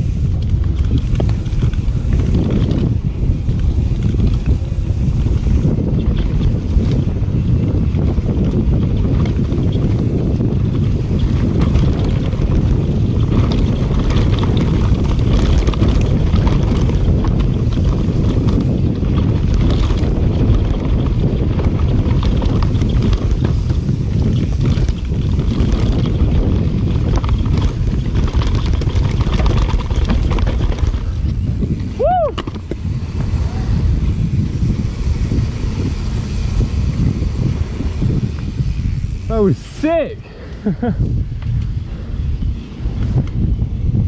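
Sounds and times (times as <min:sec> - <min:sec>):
bike clattering over bumps: 0:00.0 - 0:39.4, 0:40.2 - 0:44.0
mountain bike rumbling on dirt trail: 0:00.0 - 0:44.0
wind buffeting microphone: 0:00.0 - 0:44.0.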